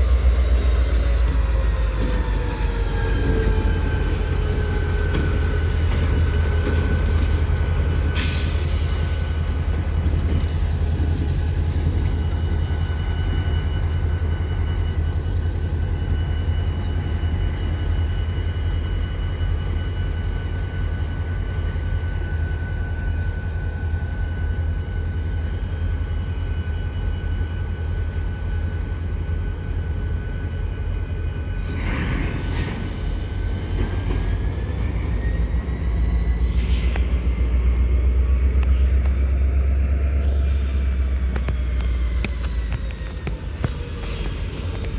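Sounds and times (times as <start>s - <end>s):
high-pitched whine: 0.0s - 44.9s
train rumbling: 0.0s - 44.9s.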